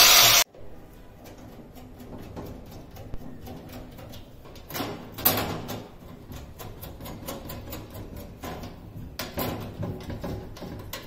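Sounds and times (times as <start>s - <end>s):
scraping clatter on sheet metal: 0.2s - 11.0s.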